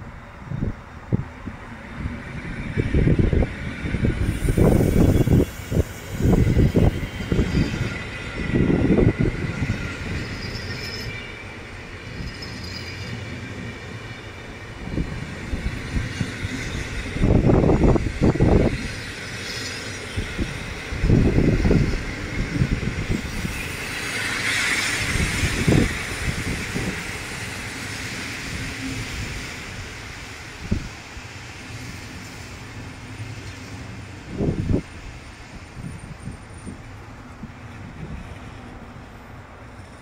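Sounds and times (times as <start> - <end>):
train coaches rolling on rails: 0.0 - 40.0.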